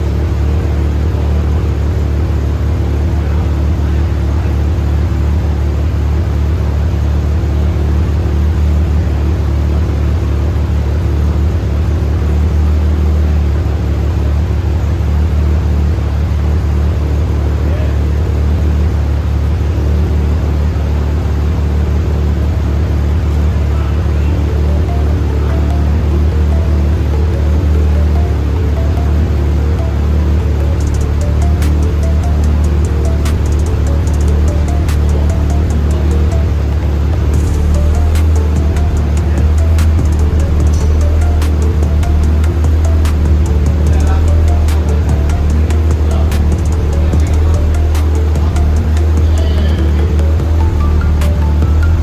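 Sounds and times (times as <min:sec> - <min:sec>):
rotary engine idling: 0:00.0 - 0:52.0.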